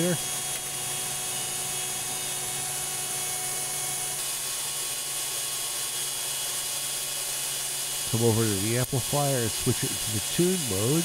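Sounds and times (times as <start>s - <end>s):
cooling fan whirring: 0.0s - 11.0s.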